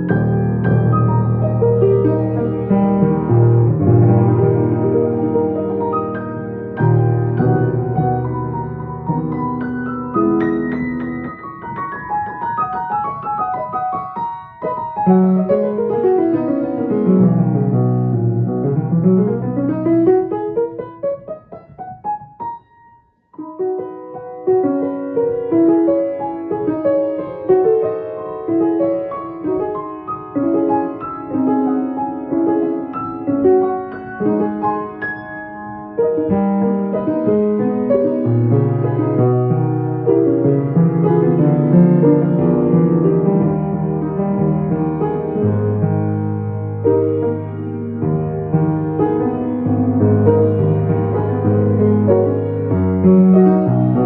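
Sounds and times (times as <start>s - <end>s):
piano playing: 0.0s - 54.0s.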